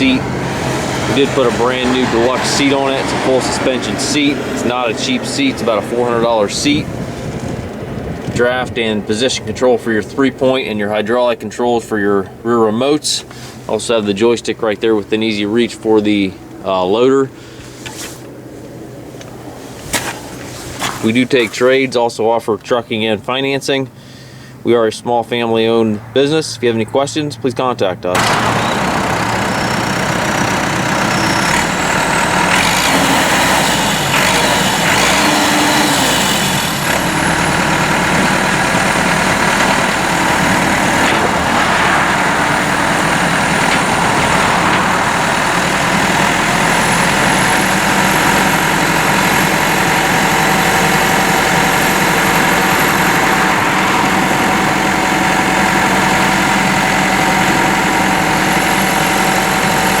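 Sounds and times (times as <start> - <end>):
tractor diesel engine running: 0.0 - 27.0, 28.1 - 60.0.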